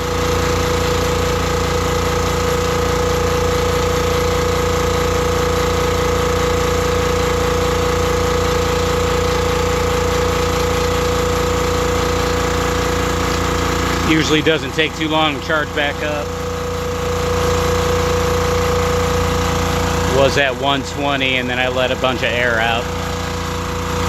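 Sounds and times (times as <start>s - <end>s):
air compressor running: 0.0s - 24.0s.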